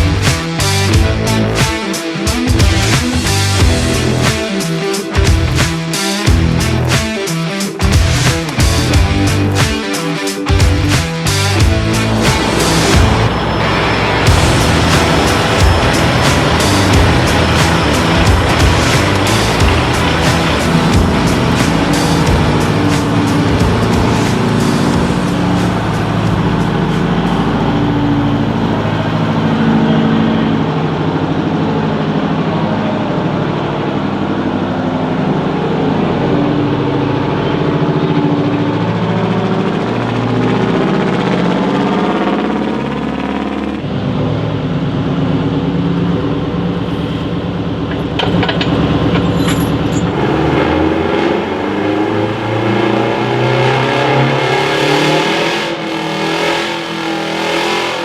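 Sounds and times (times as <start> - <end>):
vehicle engine revving under load: 10.5 - 58.0.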